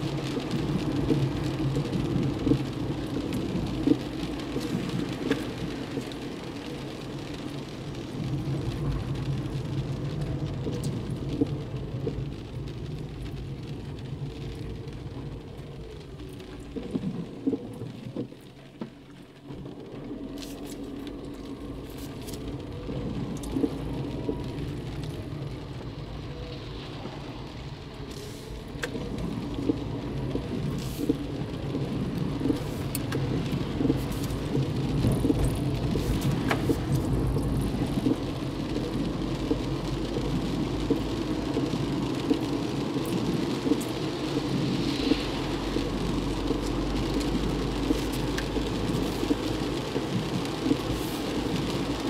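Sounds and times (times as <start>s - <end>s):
engine and tyre hum: 0.0s - 52.0s
raindrops on windshield and roof: 0.0s - 52.0s.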